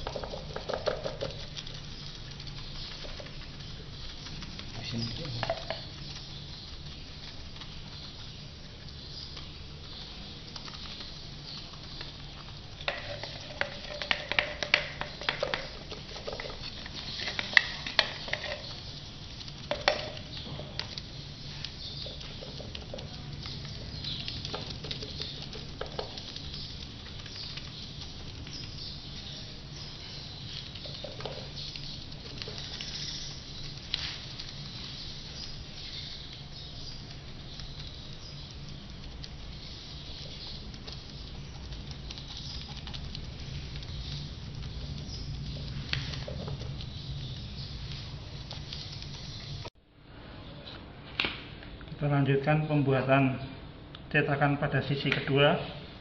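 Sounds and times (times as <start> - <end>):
paintbrushes dabbing wet resin: 0.0 - 49.7
low steady hum: 0.0 - 56.0.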